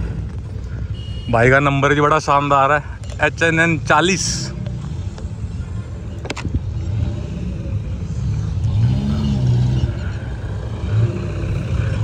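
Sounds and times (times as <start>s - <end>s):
engine rumbling and revving: 0.0s - 0.9s, 2.4s - 12.0s.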